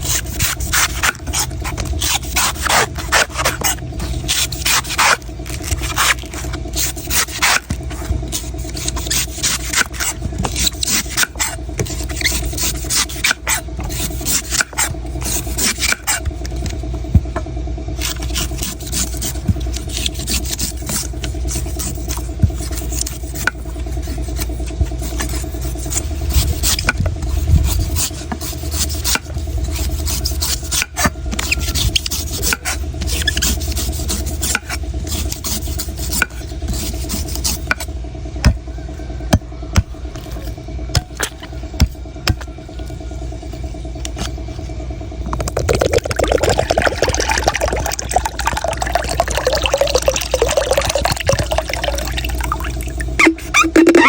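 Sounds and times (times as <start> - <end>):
knife scraping coconut: 0.0 - 16.9, 17.9 - 37.9, 45.3 - 54.0
steady low hum: 0.0 - 54.0.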